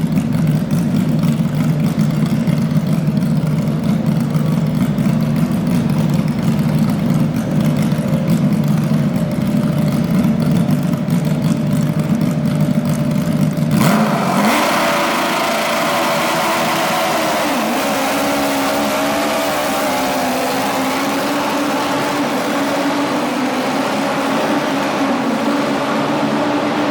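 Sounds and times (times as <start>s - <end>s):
engine hiss: 0.0s - 26.9s.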